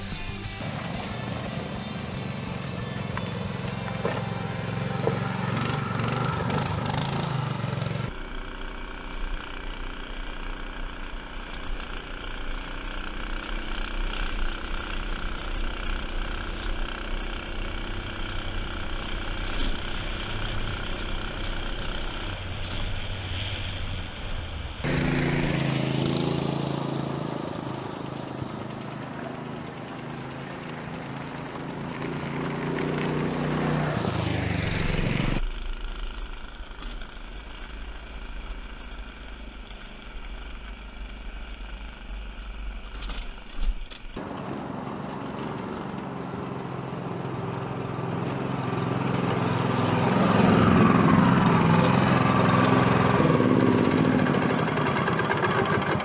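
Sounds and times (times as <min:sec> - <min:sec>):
go-kart engine running: 0:00.0 - 0:56.0
go-kart passing by: 0:00.0 - 0:56.0.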